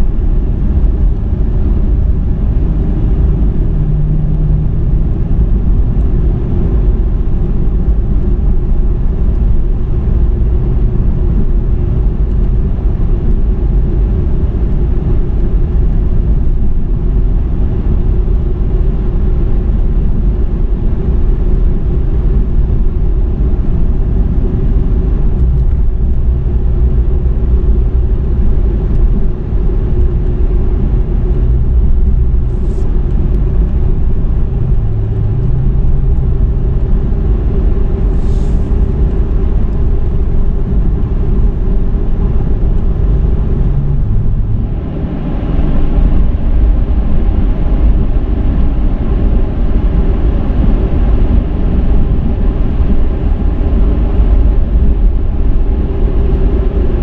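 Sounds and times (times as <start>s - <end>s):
car engine rumble: 0.0s - 57.0s
tyre road noise: 0.0s - 57.0s.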